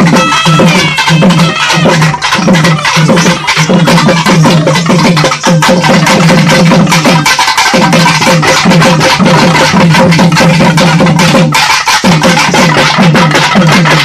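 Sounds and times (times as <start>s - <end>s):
fast drum-driven dance music: 0.0s - 14.0s.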